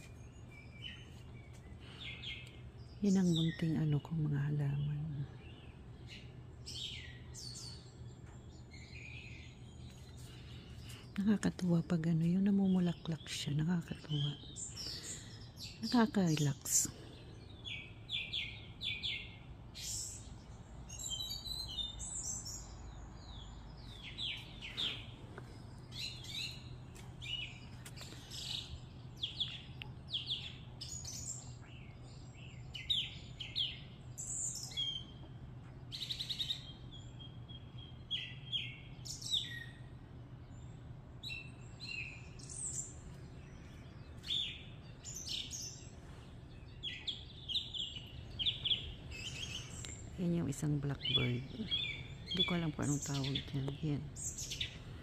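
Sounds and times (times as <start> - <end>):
birds chirping and singing: 0.0 - 55.0
faint low hum: 0.0 - 55.0.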